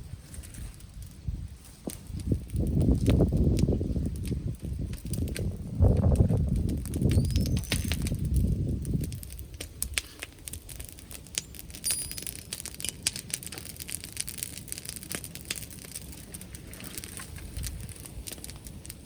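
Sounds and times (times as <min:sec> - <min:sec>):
bonfire crackling and popping: 0:00.0 - 0:19.0
low wind rumble: 0:00.0 - 0:19.0.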